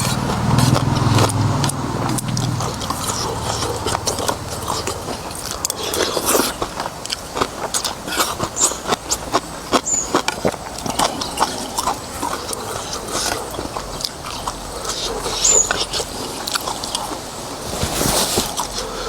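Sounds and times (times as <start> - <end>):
chewing with wet smacks: 0.0 - 19.0.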